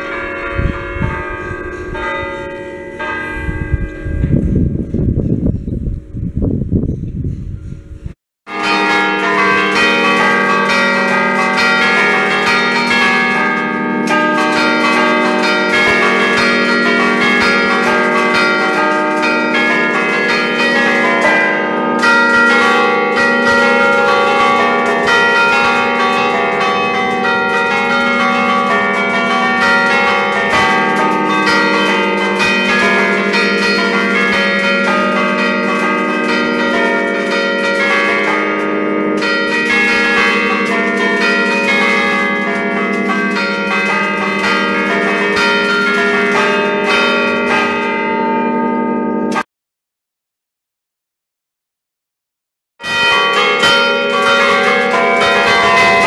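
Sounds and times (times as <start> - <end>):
church bells pealing: 0.0 - 5.7, 8.5 - 49.5, 52.8 - 56.0.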